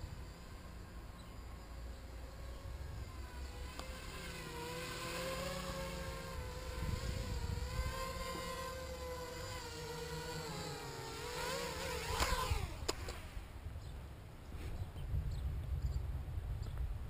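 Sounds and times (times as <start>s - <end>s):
quadcopter propellers whirring: 0.0s - 13.9s.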